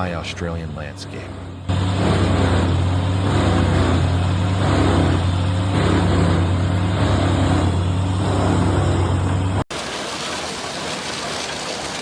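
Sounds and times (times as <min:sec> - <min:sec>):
tree chipper engine humming: 0:00.0 - 0:12.0.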